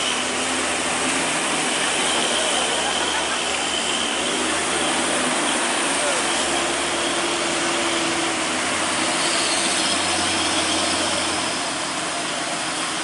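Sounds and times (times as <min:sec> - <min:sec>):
heavy rain on road: 0:00.0 - 0:13.0.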